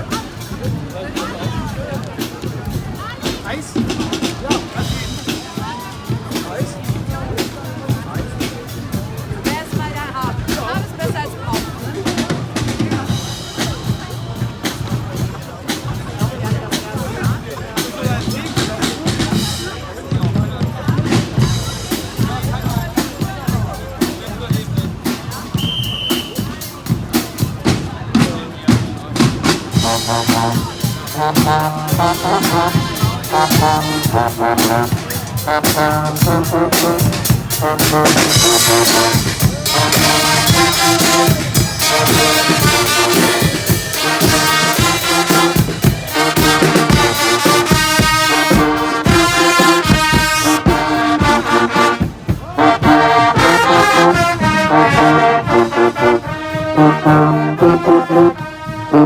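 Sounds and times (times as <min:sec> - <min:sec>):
brass band playing a march: 0:00.0 - 0:59.0.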